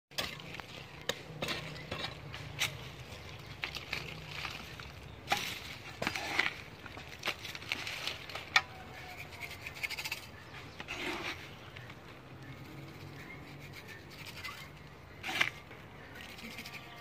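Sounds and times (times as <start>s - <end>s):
hand digging in dry soil: 0.2s - 17.0s.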